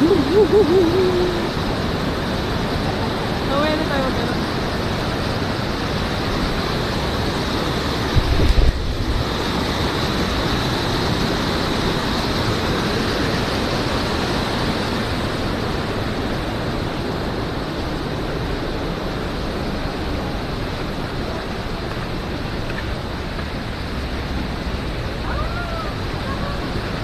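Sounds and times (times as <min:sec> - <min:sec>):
waterfall rushing: 0:00.0 - 0:27.0
wind buffeting microphone: 0:00.0 - 0:27.0.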